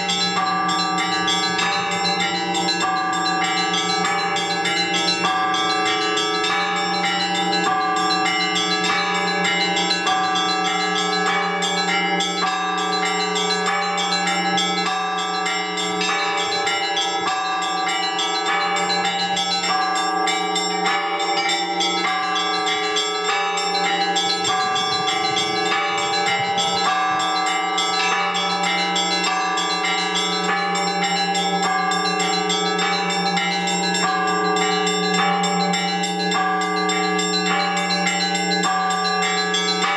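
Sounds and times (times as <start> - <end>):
large low bells ringing: 0.0 - 39.9
small church bells pealing: 0.0 - 39.9.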